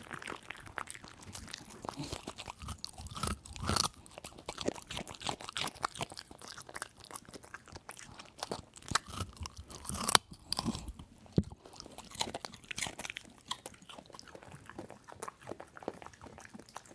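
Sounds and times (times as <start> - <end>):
dog chomping food: 0.0 - 16.9.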